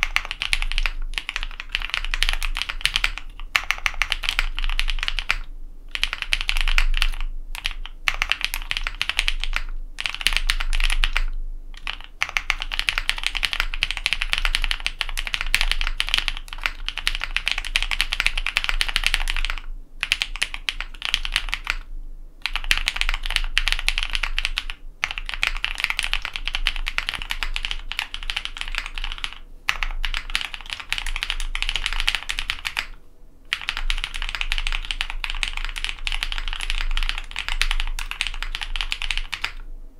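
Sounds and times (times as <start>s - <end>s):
fast typing on mechanical keyboard: 0.0s - 39.6s.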